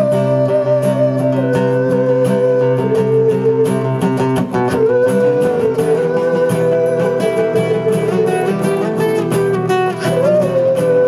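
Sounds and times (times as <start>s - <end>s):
acoustic guitars strumming chords: 0.0s - 11.0s.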